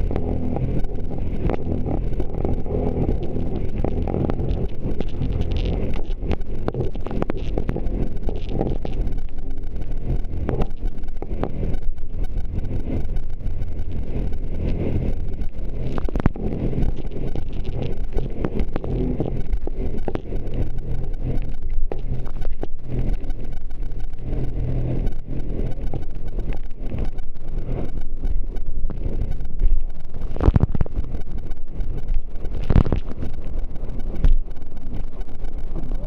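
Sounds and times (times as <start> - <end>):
jet ski engine at full throttle: 0.0 - 31.8.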